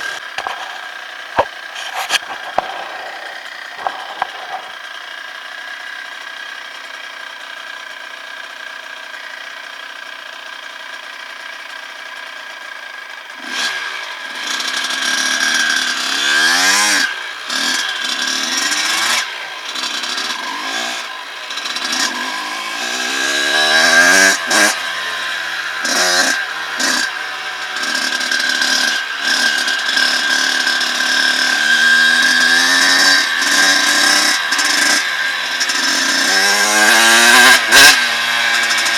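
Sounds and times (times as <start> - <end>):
dirt bike engine revving: 0.0 - 5.8, 13.3 - 38.9.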